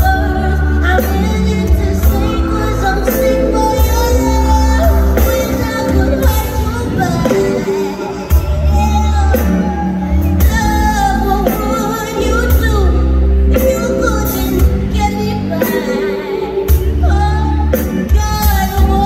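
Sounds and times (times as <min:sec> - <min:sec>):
live band playing: 0:00.0 - 0:19.0
woman singing: 0:00.0 - 0:19.0.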